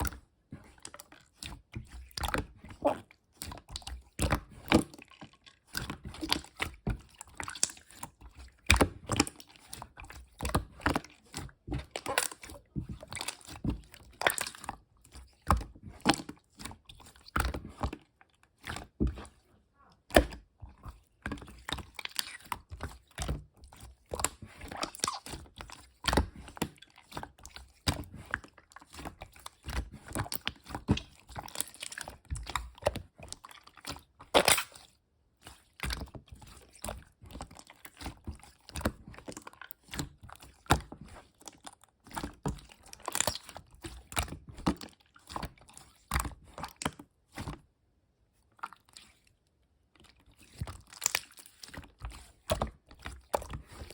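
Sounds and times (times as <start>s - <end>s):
slime squished by hand: 0.0s - 47.6s, 48.6s - 53.9s.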